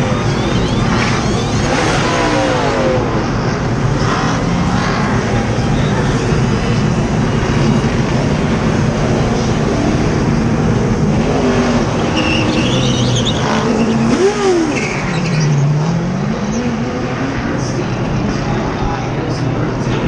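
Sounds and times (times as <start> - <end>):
car accelerating away: 0.0 - 18.4
stock car engines running: 0.0 - 20.0.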